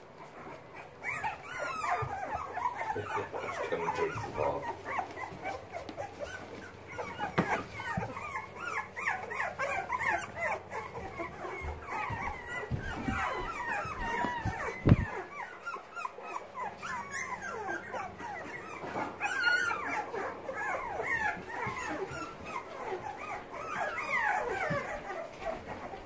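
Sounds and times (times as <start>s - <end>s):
puppies whimpering and squeaking: 0.0s - 26.0s.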